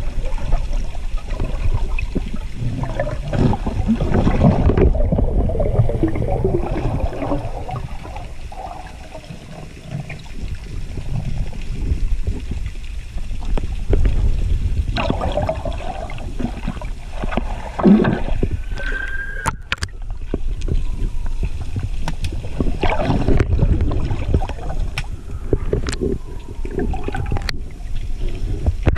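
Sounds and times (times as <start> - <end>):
water sloshing and gurgling underwater: 0.0 - 28.9.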